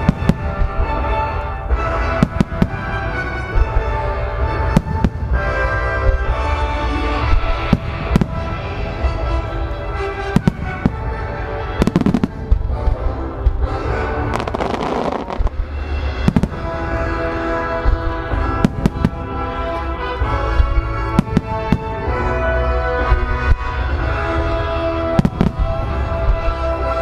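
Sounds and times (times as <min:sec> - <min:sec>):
fireworks booming: 0:00.0 - 0:27.0
music: 0:00.0 - 0:27.0.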